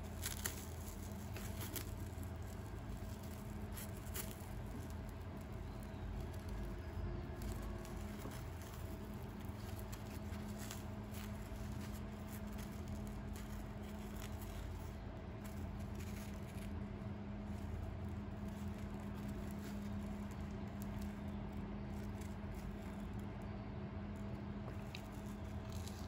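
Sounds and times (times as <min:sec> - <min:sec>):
bread crust crackling and tearing: 0:00.0 - 0:26.0
steady low hum: 0:00.0 - 0:26.0.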